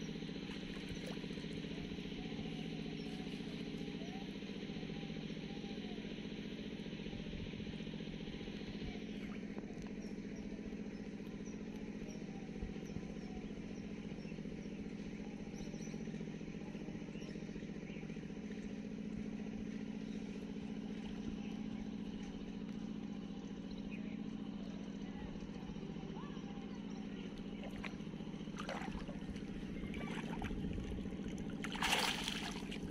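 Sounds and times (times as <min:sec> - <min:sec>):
engine humming steadily: 0:00.0 - 0:32.9.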